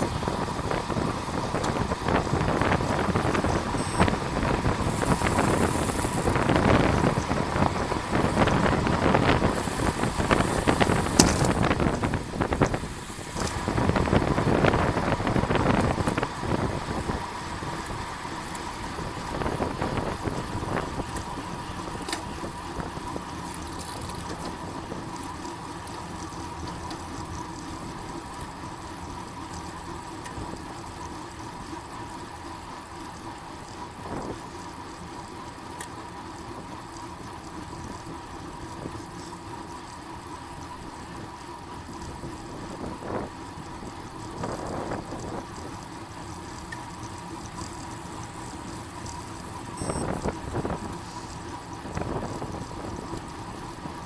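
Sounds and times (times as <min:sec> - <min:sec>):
road and riding noise: 0:00.0 - 0:54.0.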